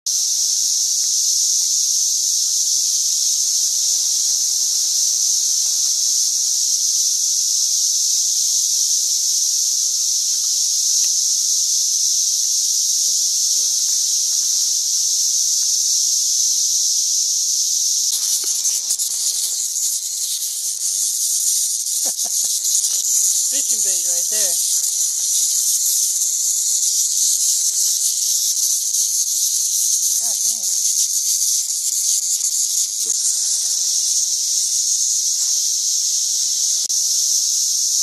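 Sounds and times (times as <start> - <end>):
cicadas droning: 0.1 - 38.0.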